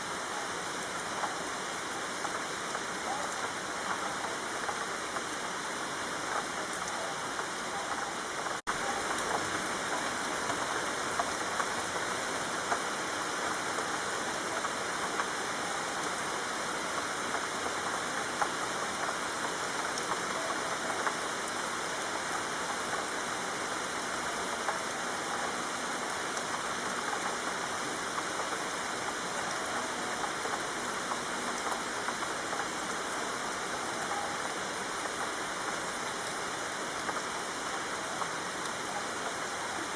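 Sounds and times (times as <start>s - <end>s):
rain falling on street: 0.0s - 39.9s.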